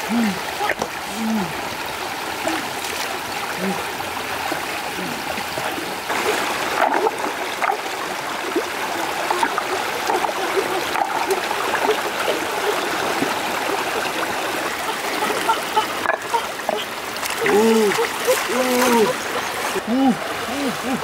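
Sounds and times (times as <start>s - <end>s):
stream rushing over stones: 0.0s - 21.0s
small splashes: 2.3s - 21.0s.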